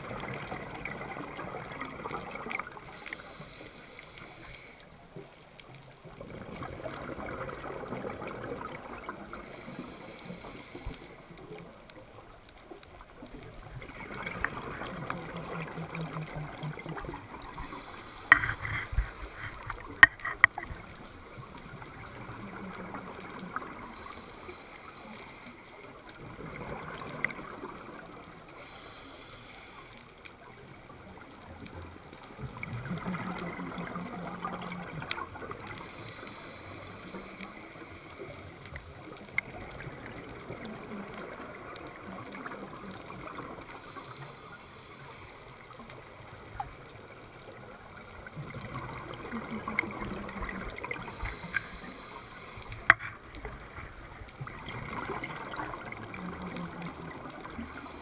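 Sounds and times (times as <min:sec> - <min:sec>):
regulator bubbles gurgling: 0:00.0 - 0:03.6, 0:05.2 - 0:28.8, 0:30.3 - 0:44.4, 0:45.0 - 0:58.0.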